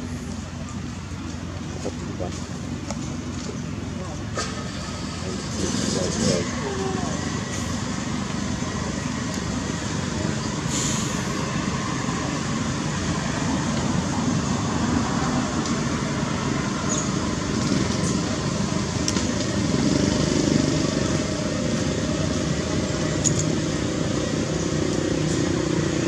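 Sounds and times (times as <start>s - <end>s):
continuous rumble and hiss: 0.0s - 26.0s.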